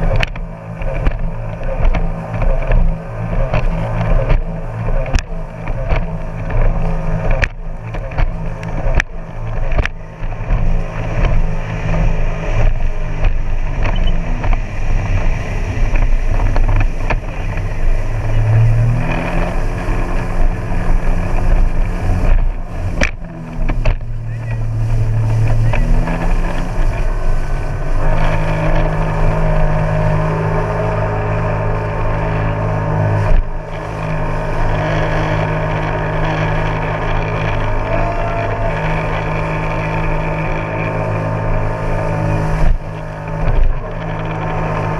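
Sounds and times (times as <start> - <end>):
jet ski engine revving: 0.0 - 44.9.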